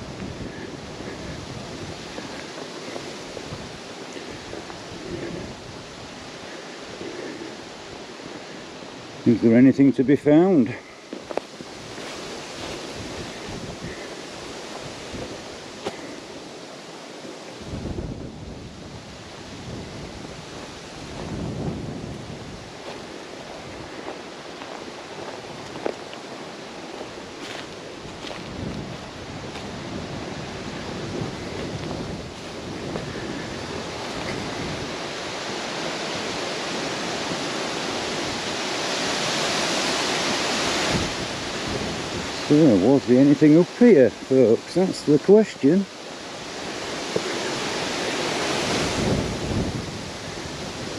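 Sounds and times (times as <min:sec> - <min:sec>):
wind buffeting microphone: 0:00.0 - 0:09.6, 0:10.3 - 0:50.9.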